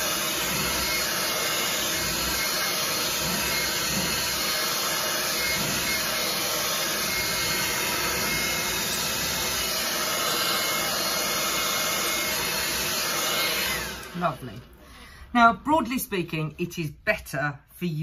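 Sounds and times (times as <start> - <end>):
hairdryer blowing: 0.0 - 14.8
hairdryer winding down whine: 0.0 - 14.8.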